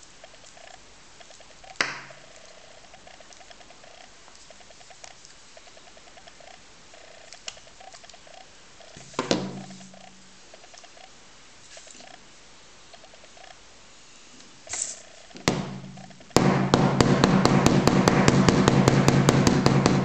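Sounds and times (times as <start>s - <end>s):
faint irregular pattering pulses: 0.0s - 16.8s.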